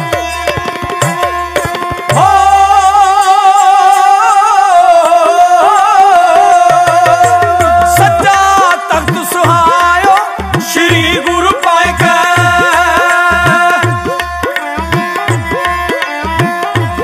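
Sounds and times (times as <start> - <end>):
tabla drumming: 0.0 - 17.0.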